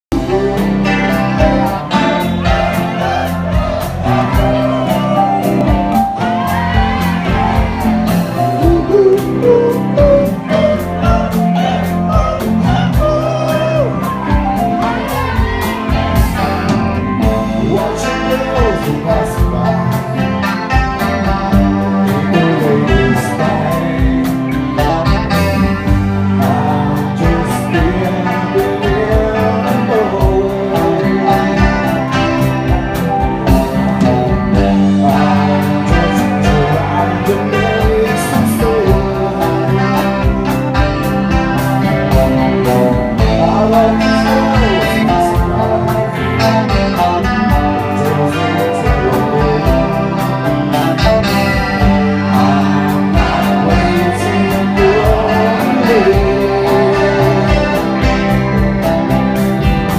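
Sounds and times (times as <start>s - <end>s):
electric guitars: 0.0s - 59.9s
man singing: 0.0s - 59.9s
steady drum beat: 0.1s - 59.9s.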